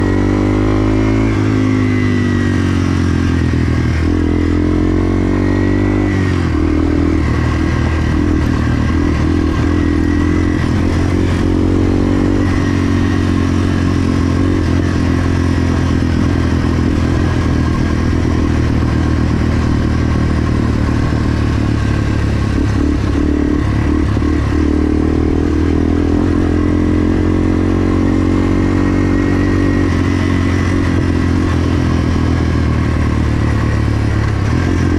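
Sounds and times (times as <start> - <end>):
motorcycle engine running hard: 0.0 - 34.9.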